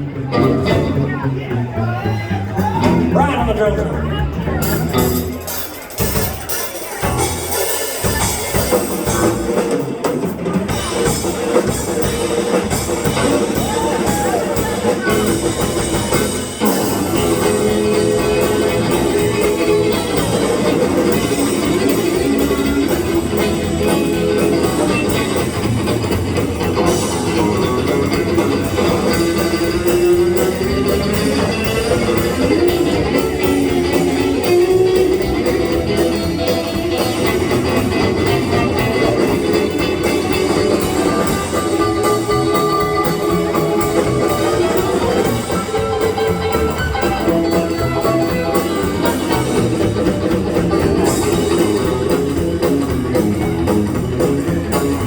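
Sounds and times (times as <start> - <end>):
guitar melody: 0.0 - 55.0
live band playing boogie: 0.0 - 55.0.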